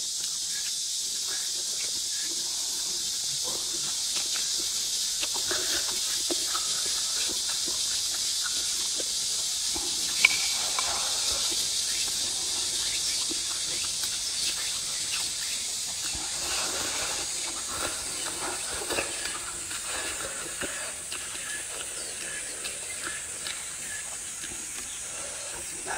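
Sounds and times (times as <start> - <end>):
steady high hiss: 0.0 - 25.9
chewing and lip-smacking: 0.2 - 25.9.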